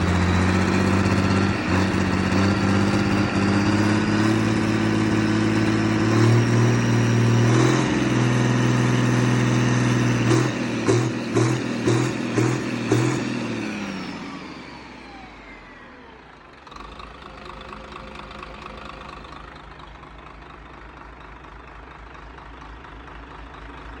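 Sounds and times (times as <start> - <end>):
engine revving: 0.0 - 19.4.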